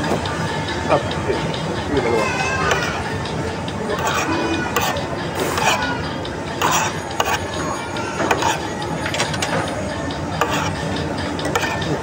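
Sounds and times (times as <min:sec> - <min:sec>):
food court background hum: 0:00.0 - 0:12.0.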